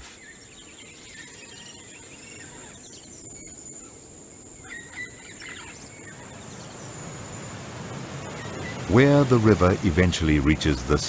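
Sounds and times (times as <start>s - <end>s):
birds chirping: 0.0s - 11.0s
insect drone: 0.0s - 11.0s
low background hiss: 0.0s - 11.0s.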